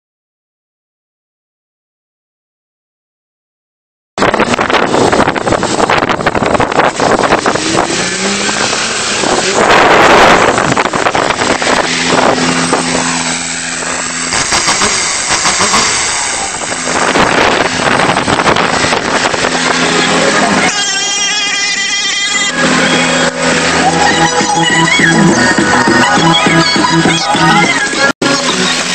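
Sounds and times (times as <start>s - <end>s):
diesel pickup engine running: 4.2s - 28.9s.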